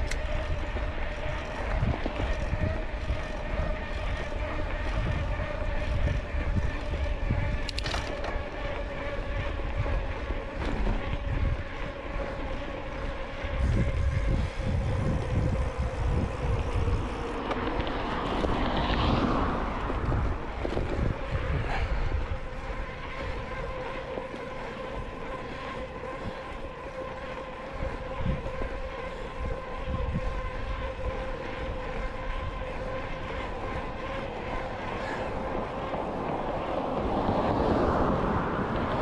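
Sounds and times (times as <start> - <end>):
hum of rolling bicycle: 0.0 - 39.0
vehicle passing: 0.0 - 39.0
wind buffeting microphone: 0.0 - 39.0.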